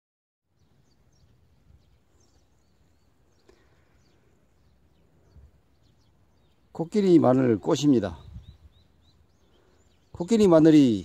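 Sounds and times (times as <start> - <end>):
distant bird chirps: 0.5 - 11.0.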